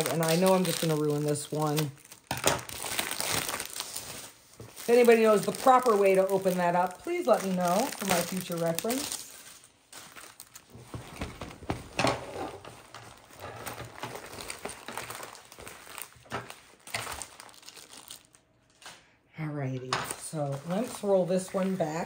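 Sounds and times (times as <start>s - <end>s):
rolled canvas rustling: 0.0s - 18.9s, 20.3s - 22.0s
plastic wrapping crinkling: 0.0s - 19.1s, 20.0s - 22.0s.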